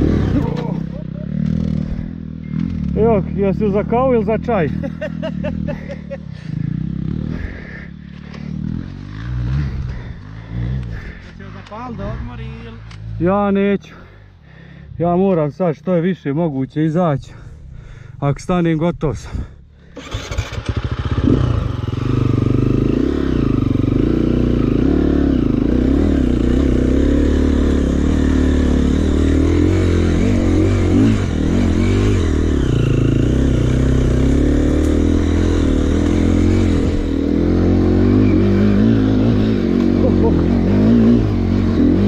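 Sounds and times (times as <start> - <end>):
motorcycle engine revving: 0.0 - 13.3, 19.9 - 42.0.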